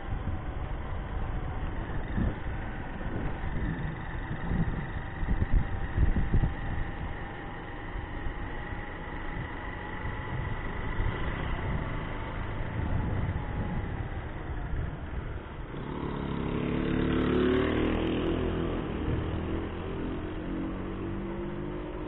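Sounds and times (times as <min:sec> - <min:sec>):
wind rumble on microphone: 0:00.0 - 0:07.6, 0:09.2 - 0:16.5, 0:17.3 - 0:22.0
motorcycle engine running: 0:00.0 - 0:22.0.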